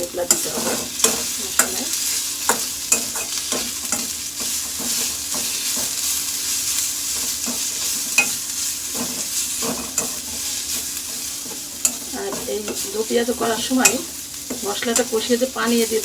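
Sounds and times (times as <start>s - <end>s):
onions sizzling in a pan: 0.0s - 16.0s
utensil scraping and tapping pan: 0.3s - 15.2s.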